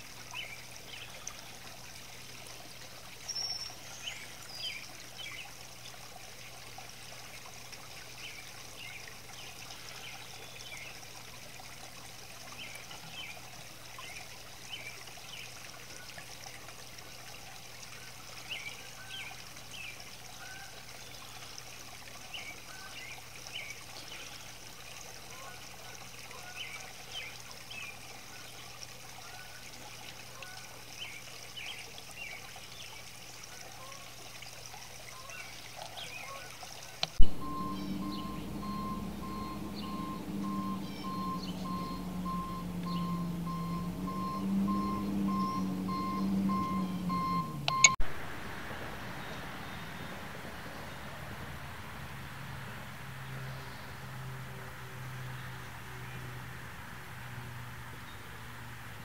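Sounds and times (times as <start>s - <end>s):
small water splashes: 0.0s - 58.8s
fountain water trickling: 0.0s - 59.0s.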